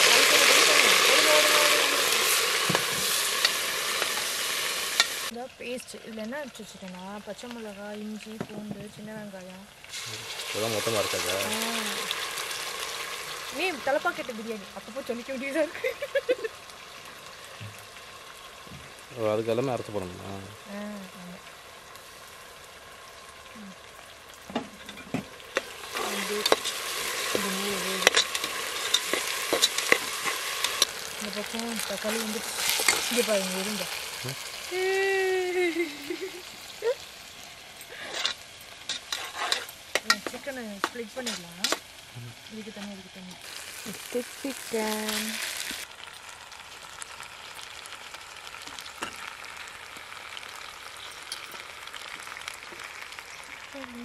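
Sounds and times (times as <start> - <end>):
paste sizzling in hot oil: 0.0 - 54.0.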